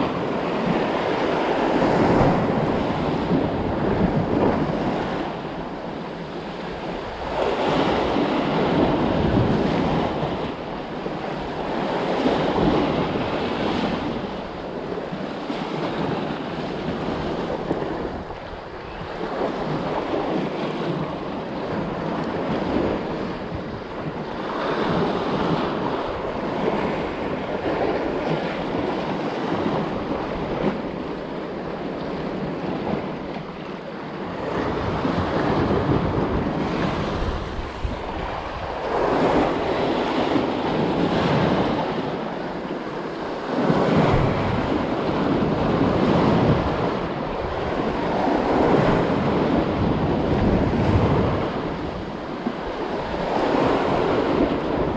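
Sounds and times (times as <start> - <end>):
sea waves washing against rocks: 0.0 - 54.9
wind buffeting the microphone: 0.0 - 54.9.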